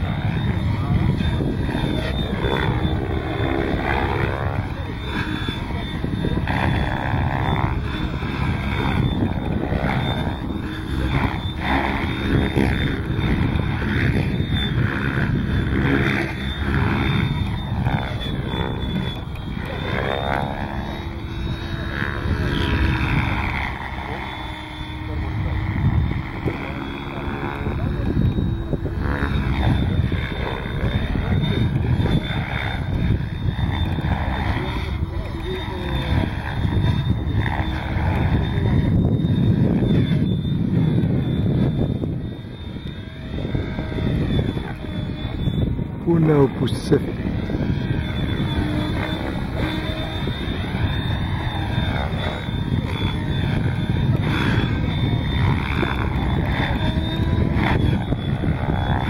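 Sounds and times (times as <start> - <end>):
model helicopter whining: 0.0 - 59.0
steady low rumble: 0.0 - 59.0.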